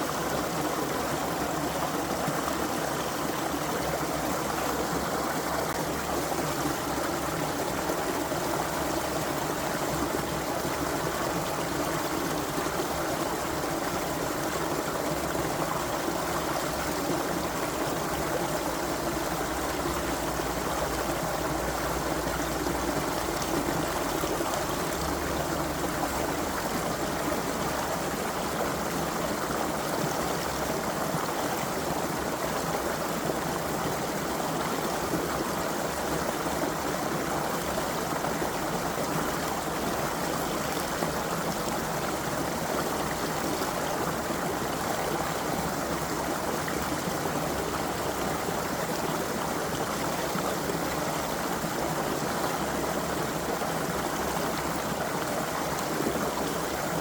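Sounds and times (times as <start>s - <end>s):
creek water running over stones: 0.0s - 57.0s.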